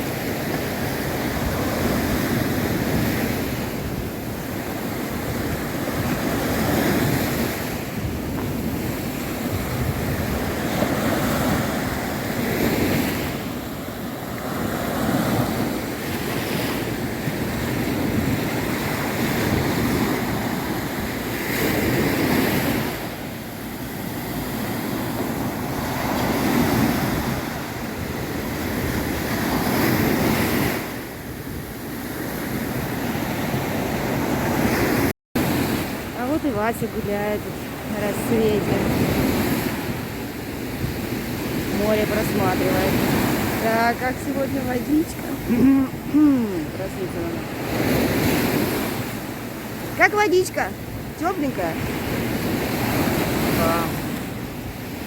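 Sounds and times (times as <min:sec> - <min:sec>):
surf breaking on a beach: 0:00.0 - 0:55.0
wind buffeting microphone: 0:00.0 - 0:55.0.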